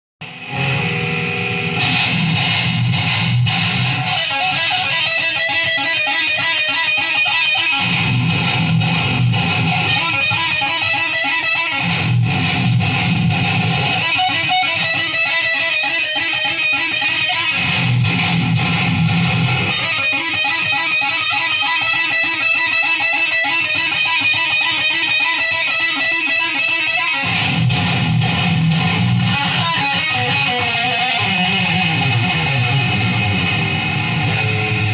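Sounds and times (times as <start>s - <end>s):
electric guitar music: 0.2s - 34.9s.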